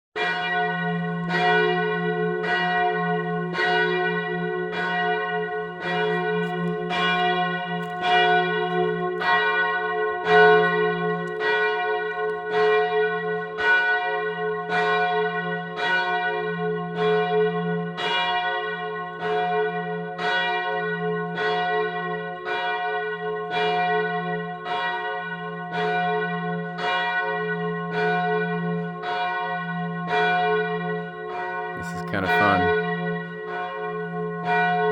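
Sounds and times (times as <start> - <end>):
church bell ringing: 0.2 - 31.8, 32.6 - 34.9.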